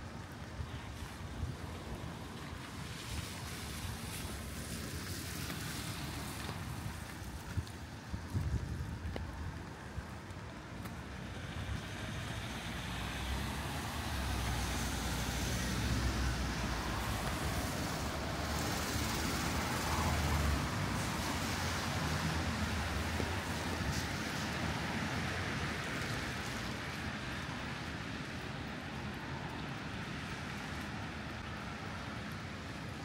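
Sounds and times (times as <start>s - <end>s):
rain hissing: 0.1s - 8.1s, 11.1s - 33.0s.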